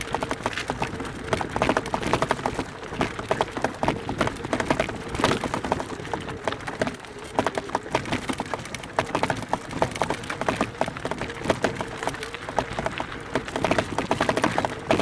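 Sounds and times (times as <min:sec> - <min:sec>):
mountain bike rattling over trail: 0:00.0 - 0:15.0.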